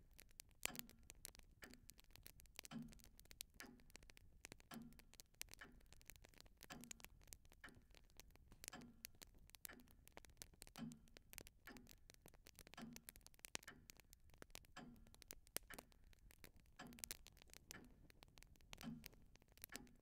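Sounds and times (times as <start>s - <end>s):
clock ticking: 0.0s - 20.0s
light scattered clicks: 0.0s - 20.0s.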